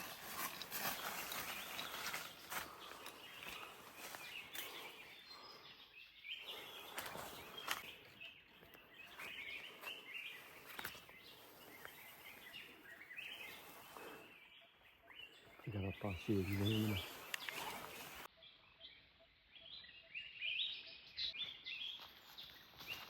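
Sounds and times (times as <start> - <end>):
bird chirps: 0.0 - 23.0.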